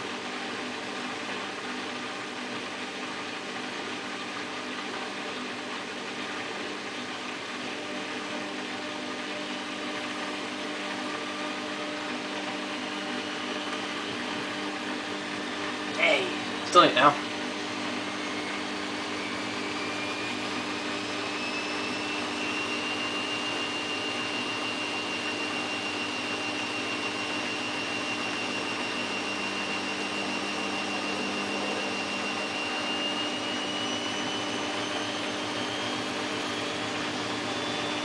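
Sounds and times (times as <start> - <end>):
washing machine drum spinning: 0.0 - 38.0.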